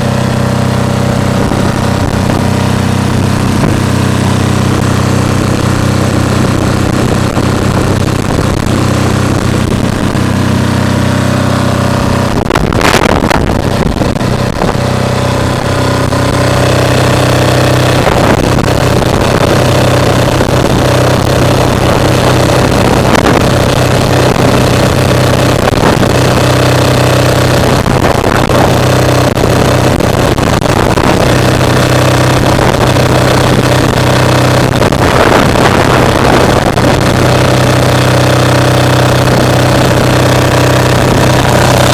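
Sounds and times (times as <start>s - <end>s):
diesel generator humming: 0.0s - 41.9s
wind on microphone: 0.0s - 41.9s.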